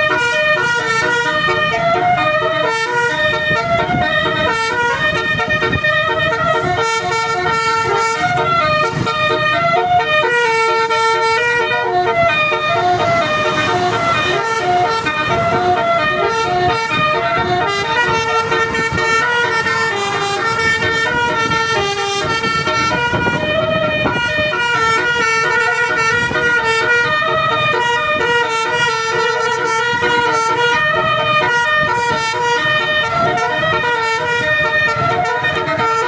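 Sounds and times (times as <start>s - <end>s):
multi-tone air horn melody: 0.0s - 36.0s.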